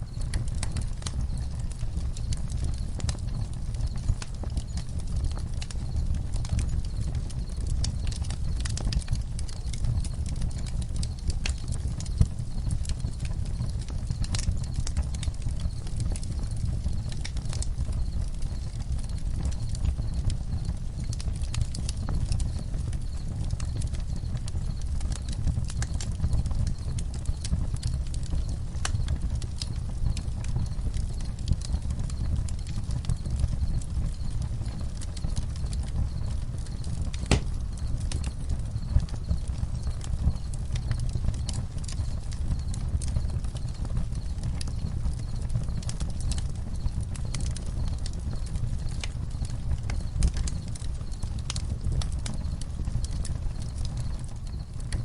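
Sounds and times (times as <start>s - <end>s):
crackles and pops of burning wood: 0.0s - 55.0s
low fire rumble: 0.0s - 55.0s.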